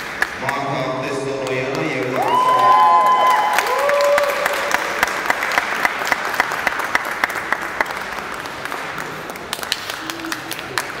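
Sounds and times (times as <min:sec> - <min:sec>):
audience applauding: 0:01.3 - 0:11.0
close person clapping: 0:01.4 - 0:11.0.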